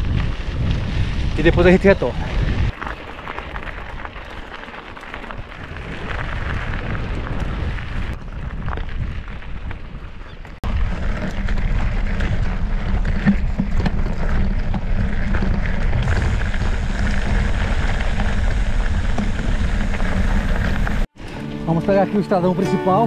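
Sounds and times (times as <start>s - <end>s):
wind rumbling on microphone: 0.0s - 21.6s
tyres rolling on dirt road: 0.0s - 23.0s.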